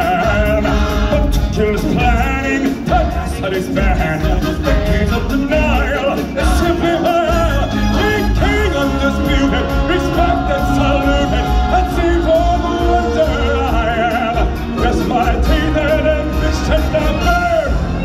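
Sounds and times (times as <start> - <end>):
band accompaniment with bass: 0.0 - 18.0
voices singing held notes: 0.0 - 18.0.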